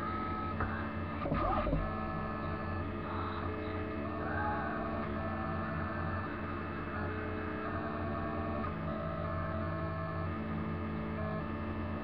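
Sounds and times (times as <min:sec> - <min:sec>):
stepper motors humming: 0:00.0 - 0:11.5.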